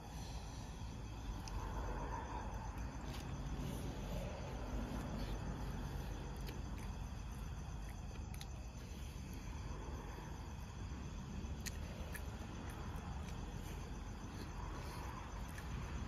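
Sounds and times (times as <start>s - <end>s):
faint insect chirring: 0.0s - 16.0s
steady low rumble: 0.0s - 16.0s.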